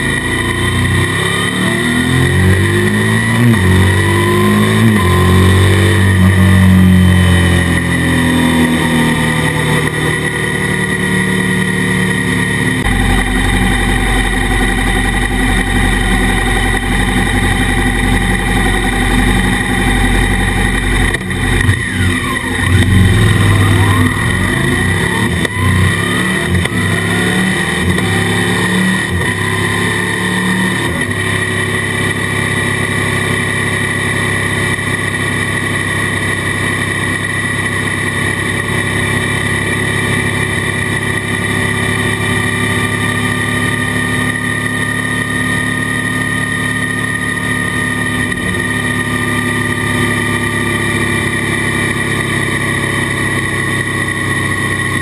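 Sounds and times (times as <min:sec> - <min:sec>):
muffled motorcycle engine accelerating: 0:00.0 - 0:55.0.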